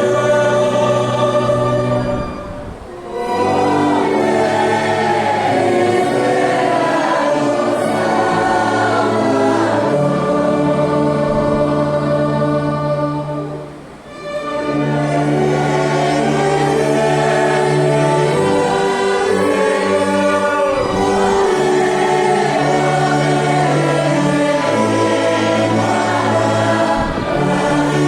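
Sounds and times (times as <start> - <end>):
choir singing a hymn: 0.0 - 28.0
sustained instrumental chords: 0.0 - 28.0.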